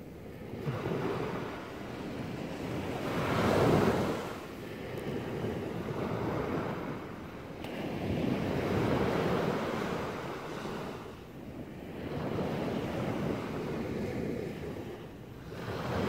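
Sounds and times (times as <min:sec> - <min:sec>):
small waves breaking on shore: 0:00.0 - 0:16.0.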